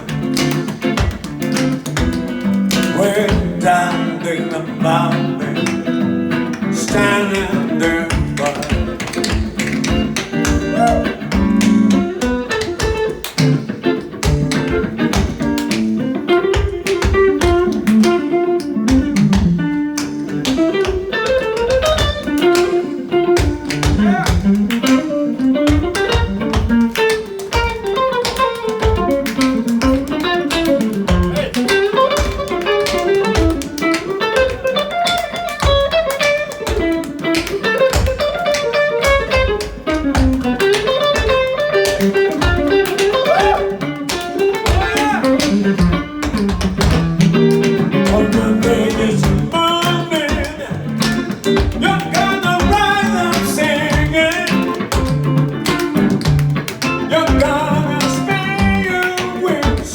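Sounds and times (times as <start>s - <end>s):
tap-dance shoe taps: 0.0s - 3.6s, 5.6s - 59.9s
guitar solo: 0.0s - 59.9s.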